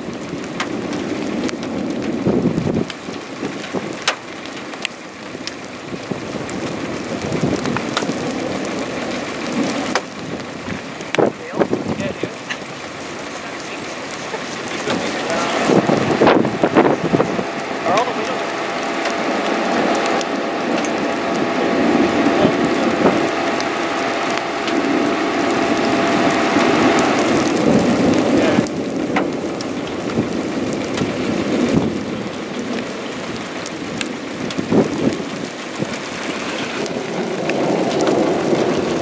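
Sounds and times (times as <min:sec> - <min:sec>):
crackling clicks: 0:00.0 - 0:39.0
rain: 0:00.0 - 0:39.0
wind: 0:00.0 - 0:39.0.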